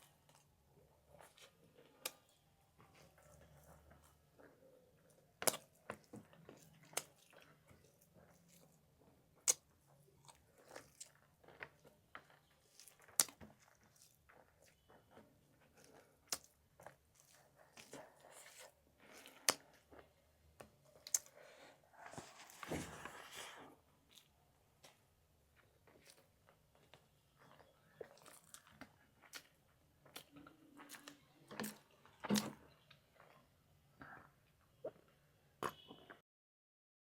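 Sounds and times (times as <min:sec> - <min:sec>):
close chewing and biting: 0:01.1 - 0:33.4.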